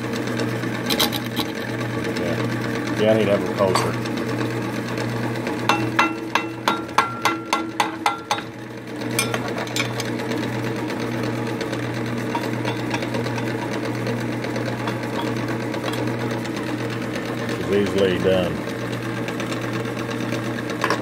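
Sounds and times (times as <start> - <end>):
lathe motor hum: 0.0 - 21.0.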